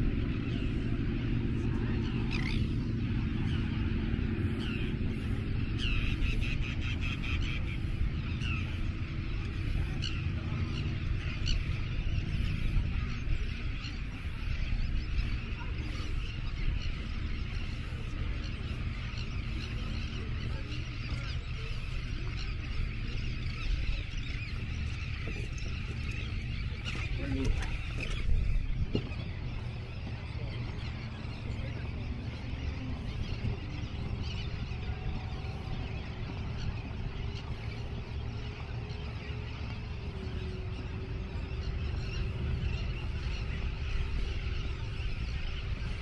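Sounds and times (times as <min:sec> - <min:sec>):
low rumble: 0:00.0 - 0:46.0.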